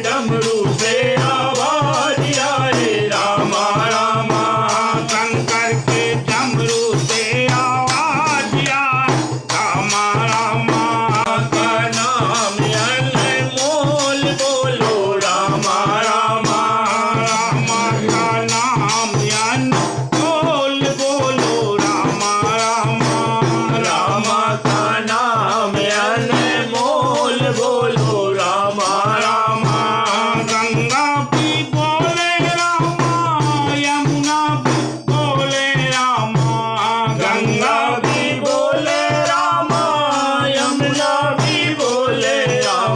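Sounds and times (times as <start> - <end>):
person singing: 0.0 - 42.9
rhythmic rattle percussion: 0.0 - 42.9.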